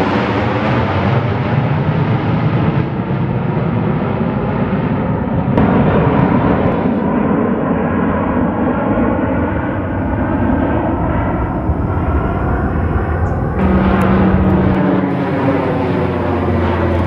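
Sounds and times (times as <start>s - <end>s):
airplane engines taking off: 0.0s - 17.0s.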